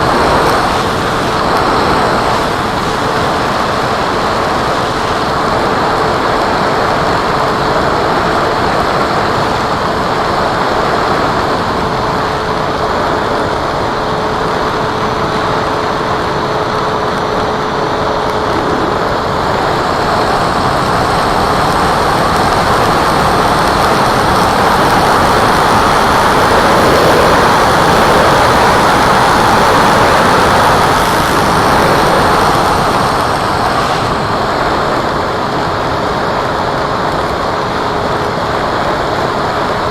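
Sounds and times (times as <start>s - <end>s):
faint steady whine: 0.0s - 39.9s
model plane propeller rushing: 0.0s - 39.9s.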